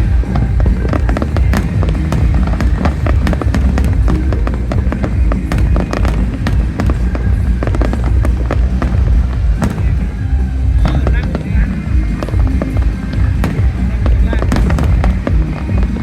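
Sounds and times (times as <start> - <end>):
fireworks banging and crackling: 0.0 - 16.0
loud bass-heavy music: 0.0 - 16.0.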